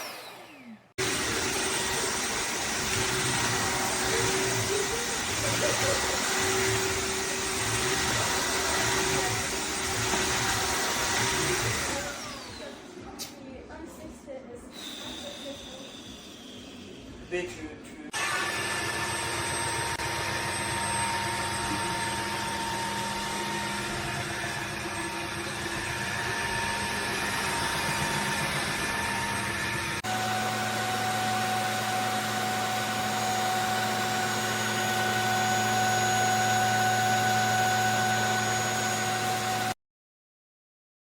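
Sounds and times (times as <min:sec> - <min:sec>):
vacuum mop motor hum and whine: 0:00.0 - 0:13.1, 0:14.8 - 0:17.0, 0:18.1 - 0:39.8.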